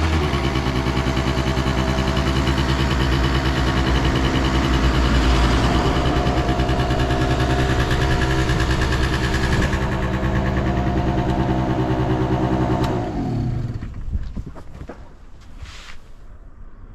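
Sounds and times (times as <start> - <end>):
engine switching off: 0.0 - 14.0
scooter engine idling: 0.0 - 14.0.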